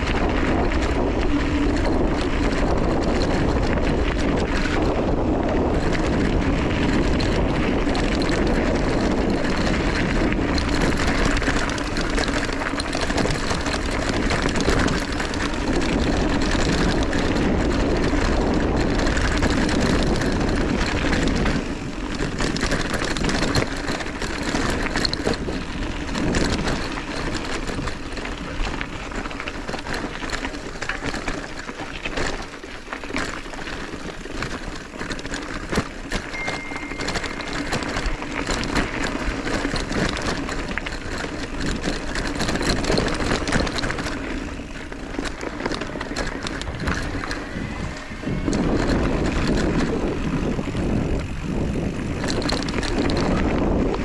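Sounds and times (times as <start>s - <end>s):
bike rattling over stones: 0.0s - 54.0s
bike tyres crunching on gravel: 0.0s - 54.0s
wind on microphone: 0.0s - 54.0s.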